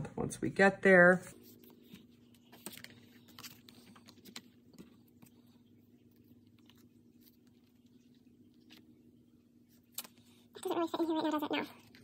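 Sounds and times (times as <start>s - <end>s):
low steady room hum: 0.0s - 12.0s.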